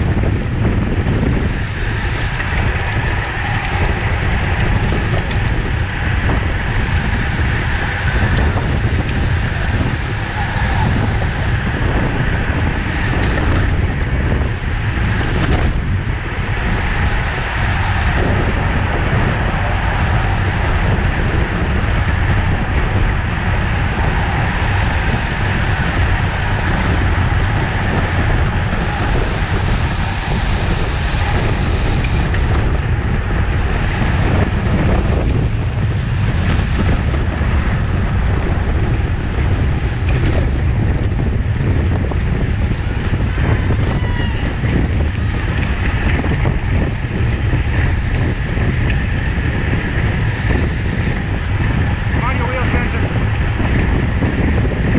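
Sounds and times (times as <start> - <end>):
road and tyre noise: 0.0 - 54.9
wind buffeting microphone: 0.0 - 54.9.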